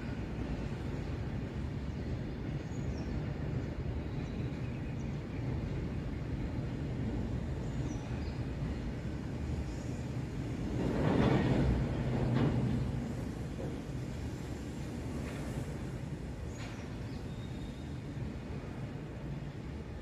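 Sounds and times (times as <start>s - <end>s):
wheels rumbling on rails: 0.0s - 20.0s.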